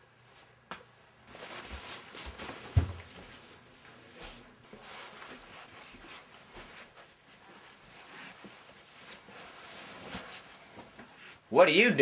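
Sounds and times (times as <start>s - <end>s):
rustling and scuffling: 1.2s - 11.2s.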